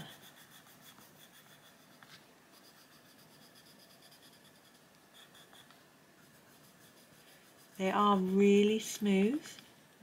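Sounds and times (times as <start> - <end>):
pencil scratching on paper: 0.0 - 9.0.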